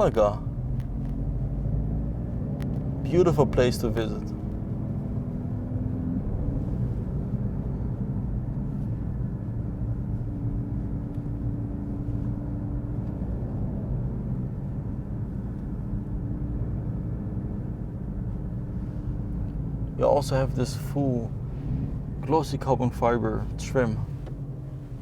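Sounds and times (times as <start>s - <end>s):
car engine drone: 0.0s - 25.0s
road noise inside car cabin: 0.0s - 25.0s.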